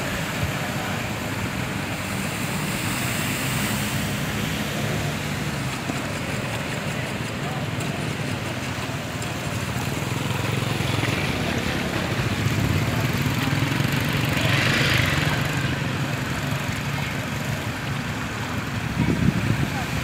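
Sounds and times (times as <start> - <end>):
motorbike engines idling: 0.0 - 20.0.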